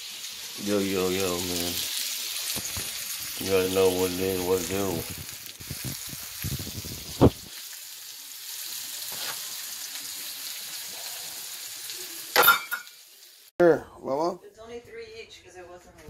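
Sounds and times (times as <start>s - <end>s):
chicken frying in oil: 0.0s - 13.5s.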